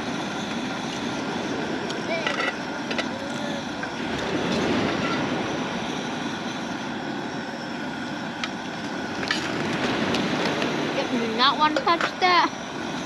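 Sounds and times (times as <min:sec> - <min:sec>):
water boiling and bubbling: 0:00.0 - 0:13.0.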